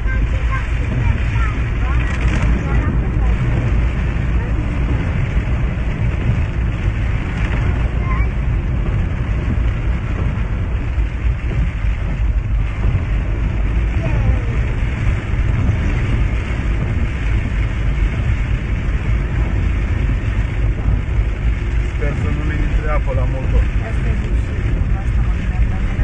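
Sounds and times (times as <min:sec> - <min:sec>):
heavy rain falling: 0:00.0 - 0:26.0
low rumble: 0:00.0 - 0:26.0.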